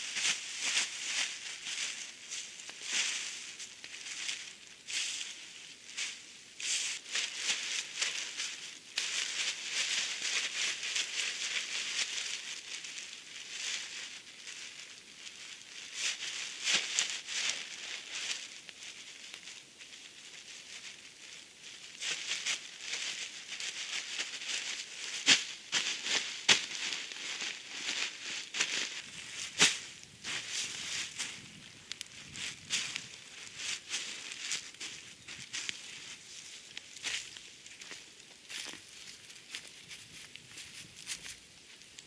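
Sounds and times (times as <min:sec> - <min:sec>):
crackling on dry leaves: 0:00.0 - 0:42.0
plastic sack crinkling: 0:07.0 - 0:41.4.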